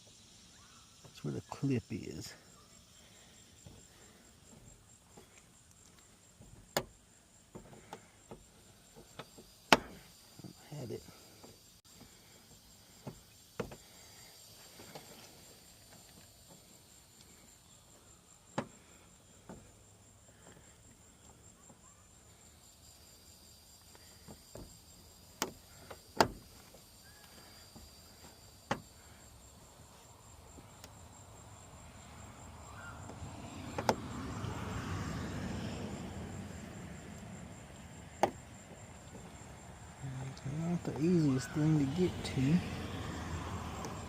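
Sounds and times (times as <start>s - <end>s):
insects chirping: 0.0s - 44.0s
vehicle noise: 0.3s - 44.0s.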